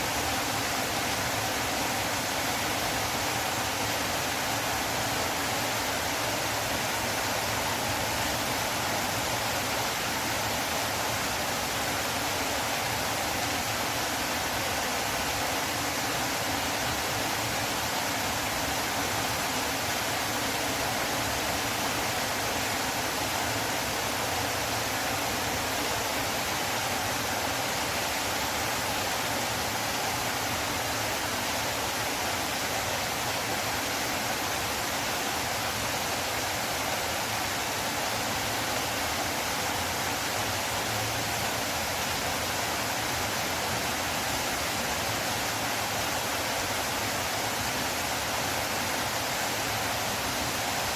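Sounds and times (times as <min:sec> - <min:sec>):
river water flowing: 0:00.0 - 0:50.9.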